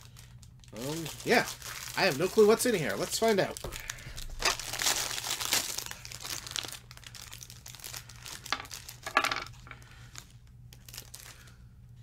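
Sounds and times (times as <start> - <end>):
foil pack tearing and crinkling: 0.0 - 11.6.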